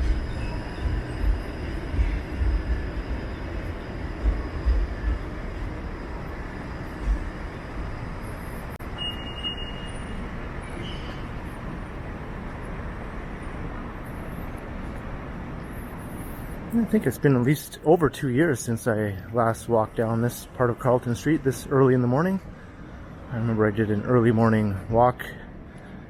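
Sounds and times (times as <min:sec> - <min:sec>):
street traffic rumbling: 0:00.0 - 0:26.0.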